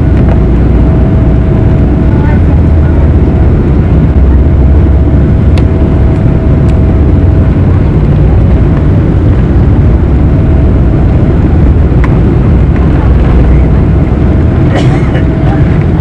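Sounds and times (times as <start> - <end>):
jet engines low rumble: 0.0 - 16.0
runway roll noise: 0.0 - 16.0
thin steady whine: 0.0 - 16.0.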